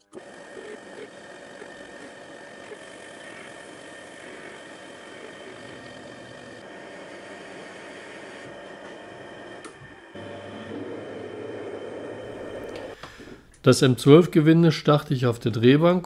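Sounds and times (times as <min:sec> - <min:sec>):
metal lathe whirring: 0:00.0 - 0:13.3.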